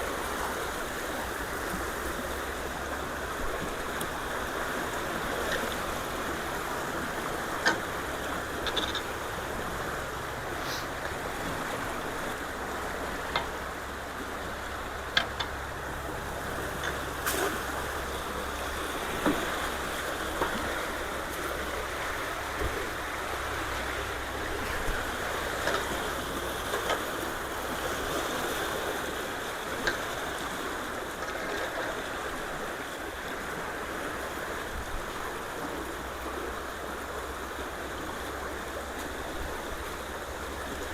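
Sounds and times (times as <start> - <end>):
creek water rushing: 0.0 - 40.9.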